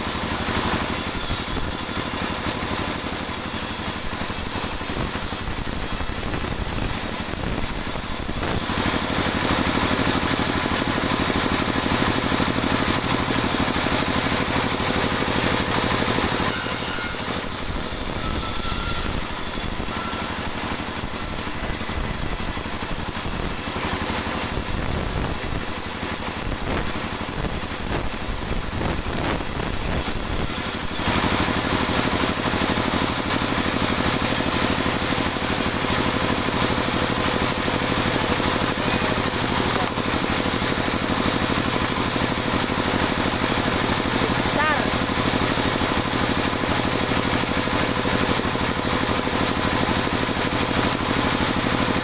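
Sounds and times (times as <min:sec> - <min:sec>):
band saw cutting wood: 0:00.0 - 0:52.0.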